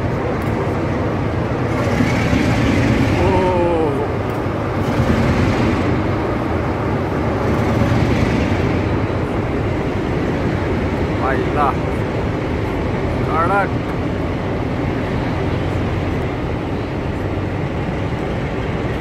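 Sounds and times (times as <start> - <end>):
train wheels and engine rumbling: 0.0 - 19.0.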